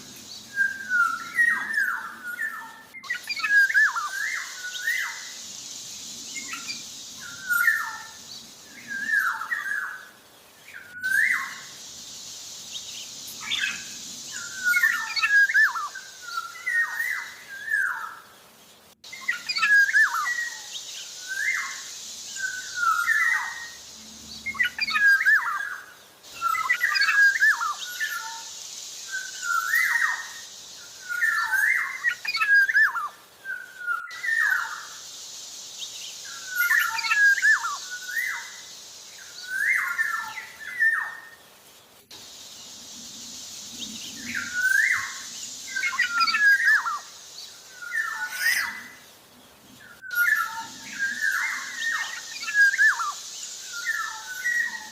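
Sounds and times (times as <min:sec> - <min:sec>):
oriole singing whistled notes: 0:00.0 - 0:18.2, 0:19.0 - 0:41.4, 0:43.7 - 0:49.0, 0:49.8 - 0:54.9
steady hiss: 0:00.0 - 0:54.9.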